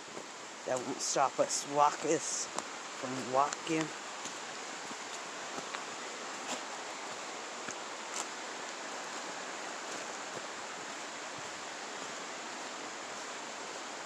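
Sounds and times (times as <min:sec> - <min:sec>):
rushing creek water: 0:00.0 - 0:14.0.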